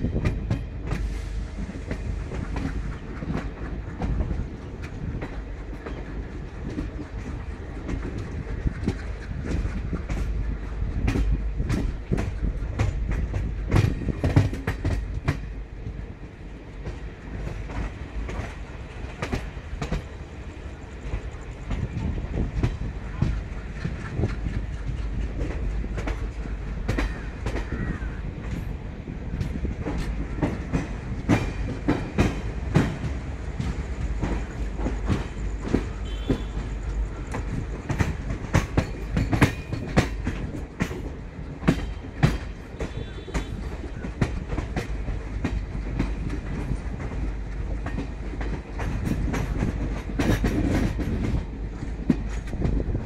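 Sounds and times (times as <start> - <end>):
moving train rumble: 0.0 - 53.0
train wheels clattering over joints: 0.0 - 53.0.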